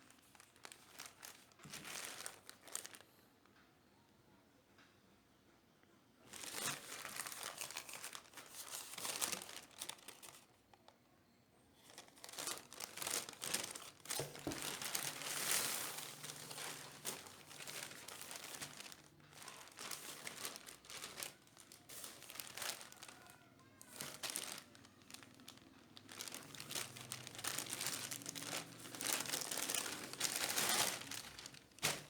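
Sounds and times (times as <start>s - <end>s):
packaging crinkling and tearing: 0.0s - 3.1s, 6.3s - 10.6s, 11.8s - 32.0s.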